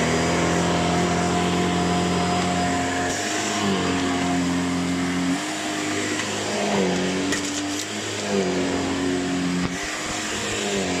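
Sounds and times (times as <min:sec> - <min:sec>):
vacuum cleaner motor hum: 0:00.0 - 0:11.0.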